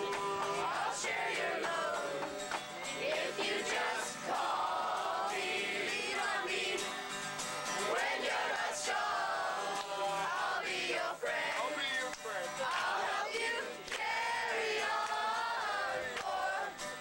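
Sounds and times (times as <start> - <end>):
song with singing voices: 0.0 - 17.0.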